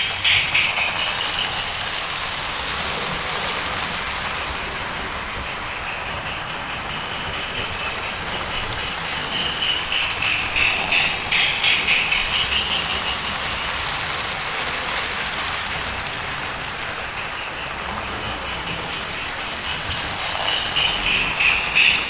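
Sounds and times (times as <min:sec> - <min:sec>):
toy train motors whirring: 0:00.0 - 0:22.0
wheels rattling on rails: 0:00.0 - 0:22.0.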